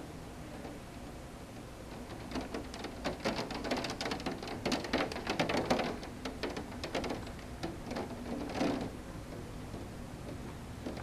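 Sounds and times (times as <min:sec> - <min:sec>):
heavy rain falling: 0:01.8 - 0:11.0.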